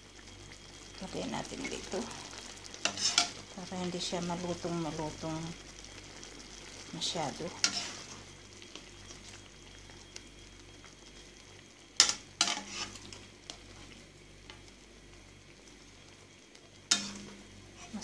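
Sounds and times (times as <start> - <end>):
broth bubbling in a pan: 0.0 - 18.0.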